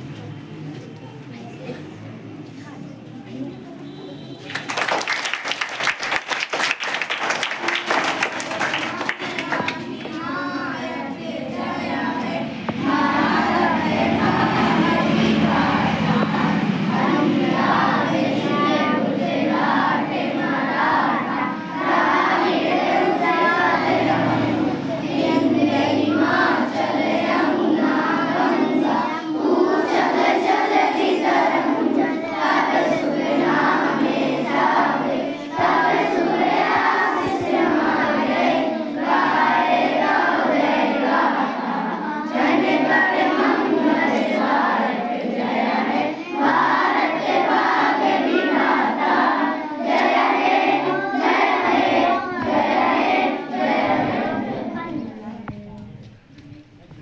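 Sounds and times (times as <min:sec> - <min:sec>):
children singing in unison: 0:06.6 - 0:55.5.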